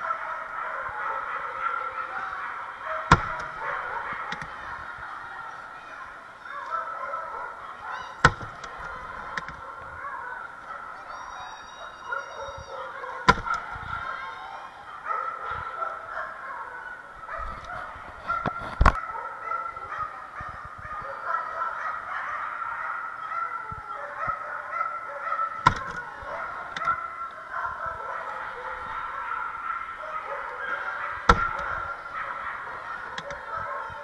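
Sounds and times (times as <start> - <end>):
dogs barking and yelping: 0.0 - 34.0.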